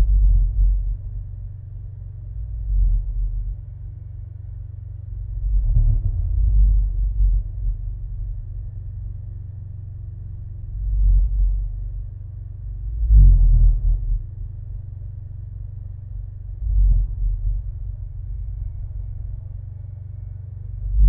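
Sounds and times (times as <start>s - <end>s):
bass-heavy electronic drone: 0.0s - 21.0s.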